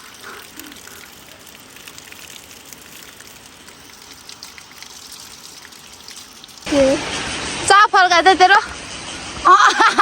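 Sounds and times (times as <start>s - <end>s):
running water rushing: 0.0s - 10.0s.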